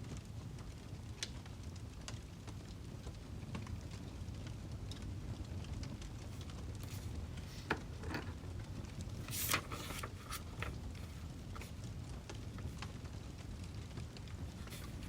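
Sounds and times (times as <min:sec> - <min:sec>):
low fire rumble: 0:00.0 - 0:15.0
wood fire crackling: 0:00.1 - 0:15.0.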